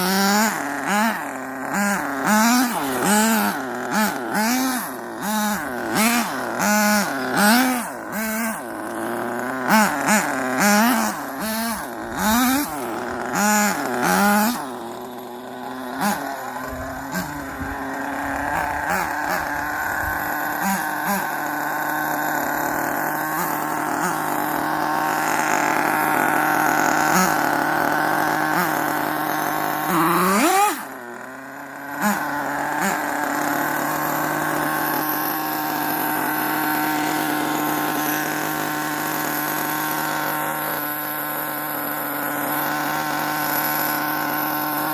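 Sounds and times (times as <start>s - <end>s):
rc car motor whine: 0.0s - 44.9s.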